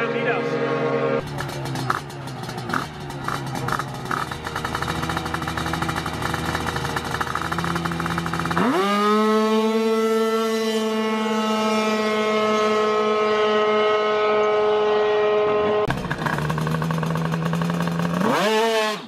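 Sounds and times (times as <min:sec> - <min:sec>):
scooter engine revving: 0:00.0 - 0:19.0.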